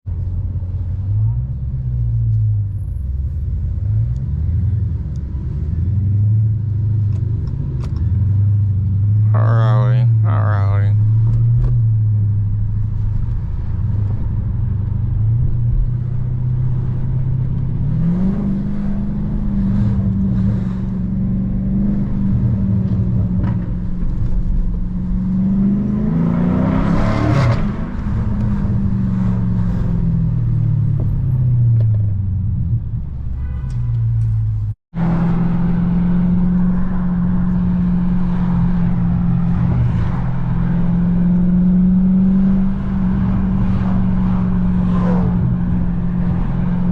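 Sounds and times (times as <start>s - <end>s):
traffic road noise: 0.0s - 46.9s.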